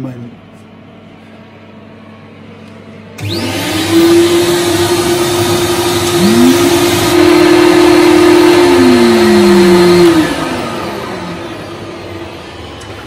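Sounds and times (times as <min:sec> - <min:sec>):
vacuum motors whining: 0:01.6 - 0:13.0.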